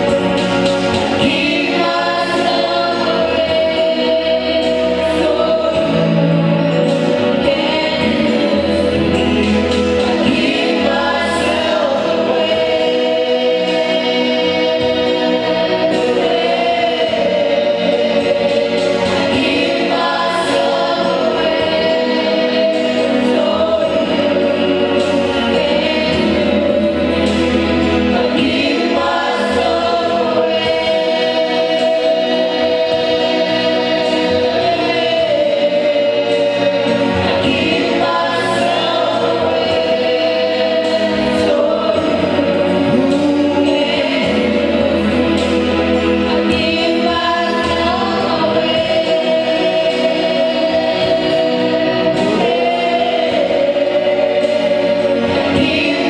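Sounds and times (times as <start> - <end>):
group singing gospel song: 0.0 - 56.0
instrumental backing with bass: 0.0 - 56.0.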